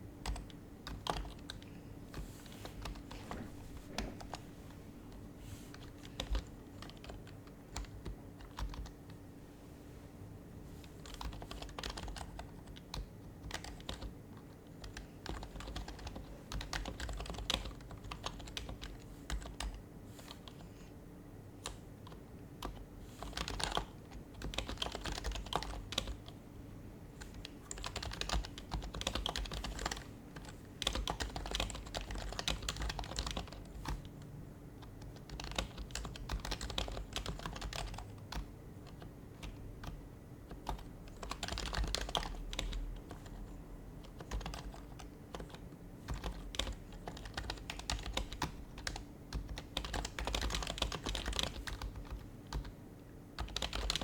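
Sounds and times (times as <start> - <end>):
keyboard typing: 0.2 - 4.5, 5.1 - 9.2, 10.9 - 20.8, 21.6 - 26.4, 27.2 - 52.8, 53.4 - 54.0.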